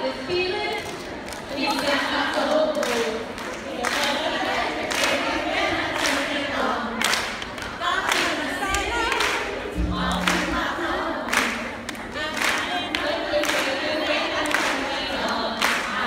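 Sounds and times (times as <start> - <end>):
group hand-clapping: 0.7 - 16.0
crowd singing: 1.4 - 16.0.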